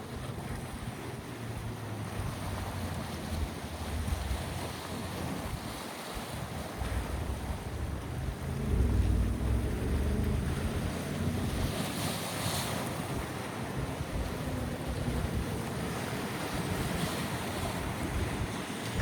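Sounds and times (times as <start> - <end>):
waves washing against shore: 0.0 - 19.0
wind buffeting microphone: 0.0 - 19.0
wave breaking and splashing: 1.0 - 19.0.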